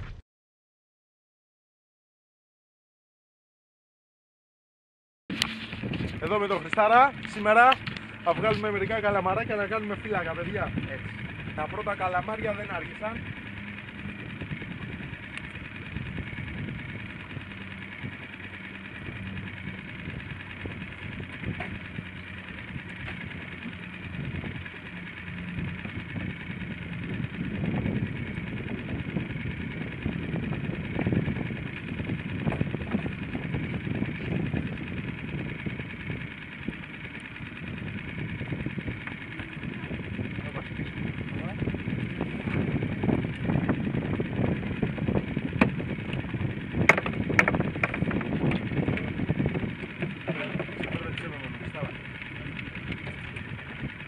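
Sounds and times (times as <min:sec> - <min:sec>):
boat engine idling: 0:05.3 - 0:54.0
rough low rumble: 0:05.3 - 0:54.0
wind noise on microphone: 0:05.3 - 0:54.0.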